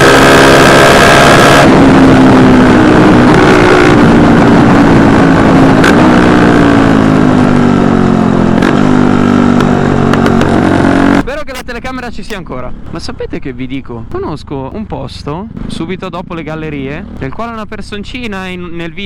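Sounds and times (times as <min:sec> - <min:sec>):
motorcycle engine running: 0:00.0 - 0:11.4, 0:12.6 - 0:19.0.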